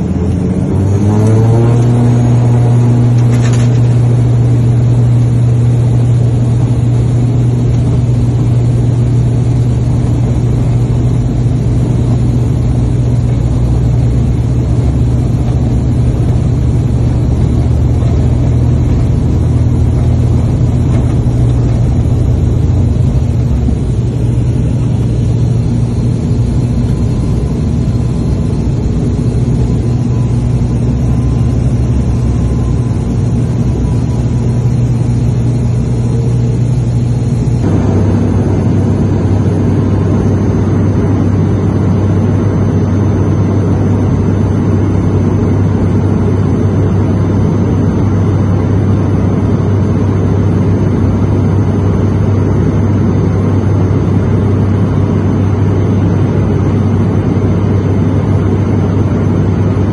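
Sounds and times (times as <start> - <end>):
turboprop engine drone in cabin: 0.0 - 59.9.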